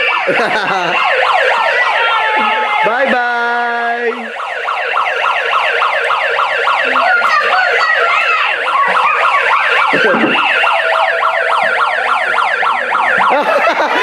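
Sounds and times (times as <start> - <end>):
electronic siren yelping: 0.0 - 14.0.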